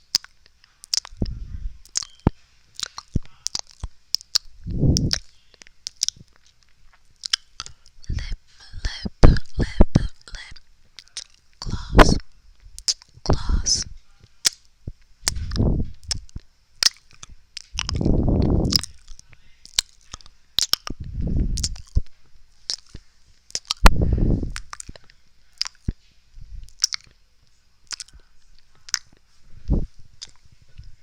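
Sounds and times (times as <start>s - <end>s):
wet mouth clicks and pops: 0.0s - 26.0s, 26.6s - 27.2s, 27.9s - 29.2s, 30.1s - 30.5s
low squishy sounds: 0.0s - 31.0s.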